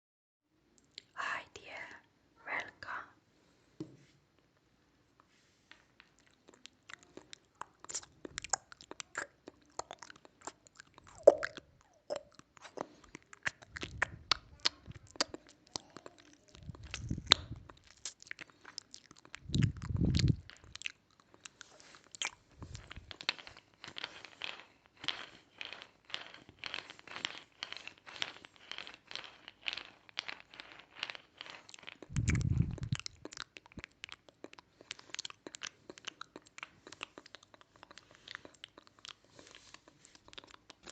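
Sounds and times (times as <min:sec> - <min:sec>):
crunching and crackling: 0:06.1 - 0:40.9.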